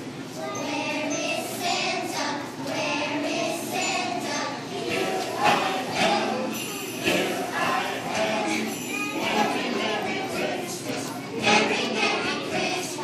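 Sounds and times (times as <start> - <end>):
children singing together: 0.3 - 13.0.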